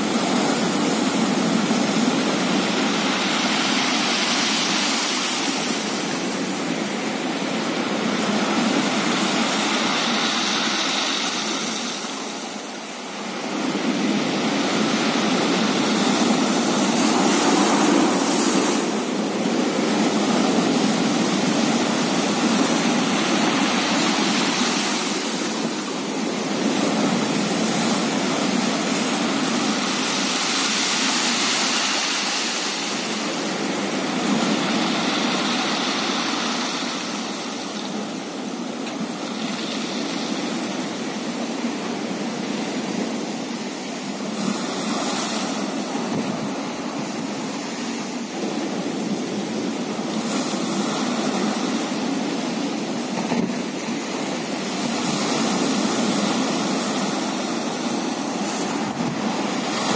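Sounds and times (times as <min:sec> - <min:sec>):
sea waves breaking on rocks: 0:00.0 - 0:59.9.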